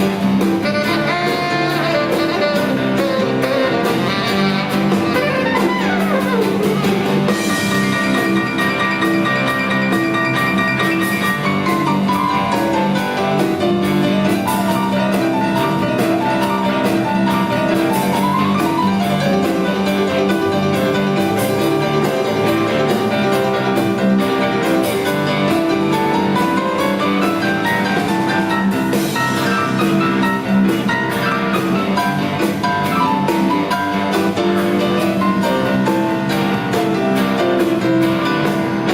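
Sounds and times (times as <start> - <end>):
blues-rock band playing: 0.0 - 38.9
drum kit beat: 0.0 - 38.9
melodic lead with sliding notes: 0.0 - 38.9.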